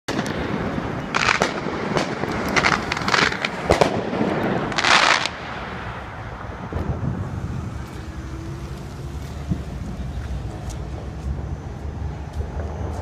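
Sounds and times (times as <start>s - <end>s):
fireworks popping and crackling: 0.1s - 13.0s
low rumble: 1.5s - 13.0s.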